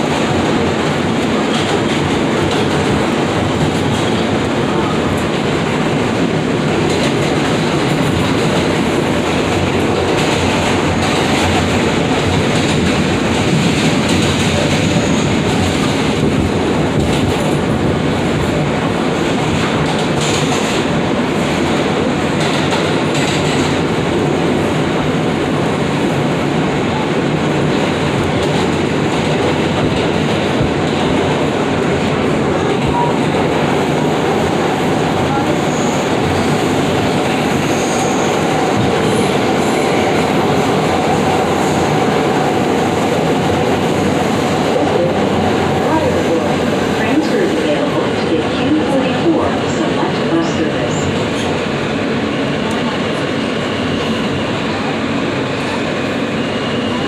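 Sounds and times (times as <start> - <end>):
subway train wheels on rails: 0.0 - 57.0.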